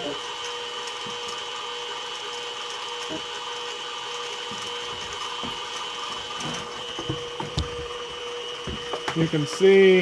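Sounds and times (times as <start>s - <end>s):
mill spindle whining: 0.0s - 10.0s.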